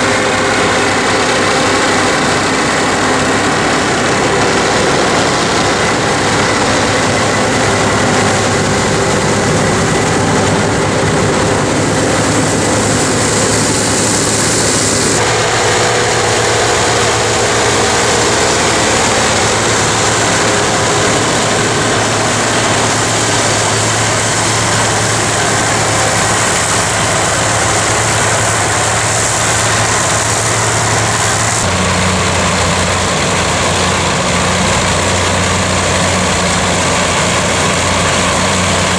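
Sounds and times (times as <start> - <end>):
forage harvester cutting: 0.0 - 38.9
tractor engine running: 0.0 - 38.9.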